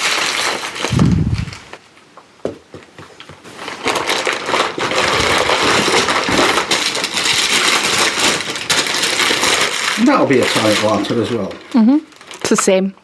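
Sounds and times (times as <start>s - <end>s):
packing material crinkling: 0.0s - 1.9s, 3.1s - 12.8s.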